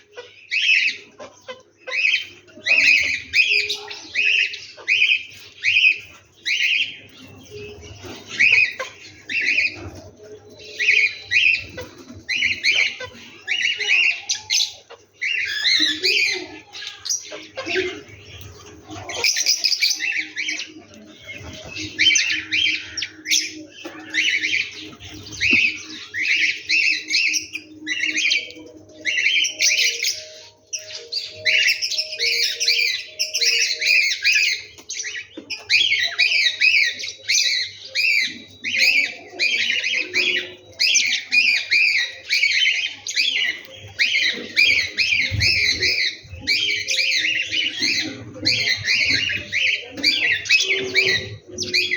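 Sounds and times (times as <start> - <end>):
birds calling and chattering: 0.0 - 51.9.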